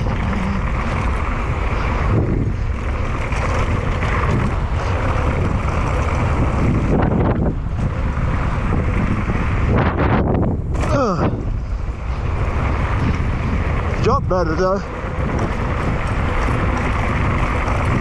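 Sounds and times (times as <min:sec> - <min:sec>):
low rumble: 0:00.0 - 0:18.0
wind buffeting microphone: 0:00.0 - 0:18.0.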